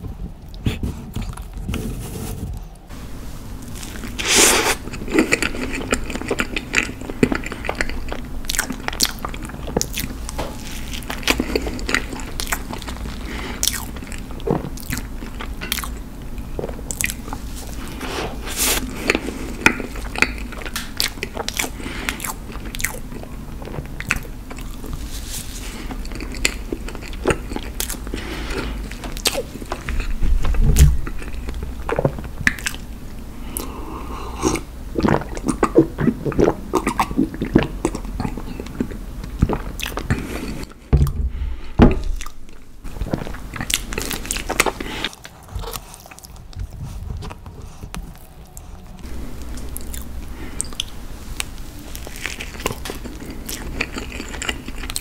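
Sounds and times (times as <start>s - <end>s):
close chewing with lip smacks: 4.8s - 18.0s, 18.9s - 25.1s, 25.8s - 32.9s, 34.4s - 40.8s, 42.1s - 51.0s, 51.9s - 55.0s.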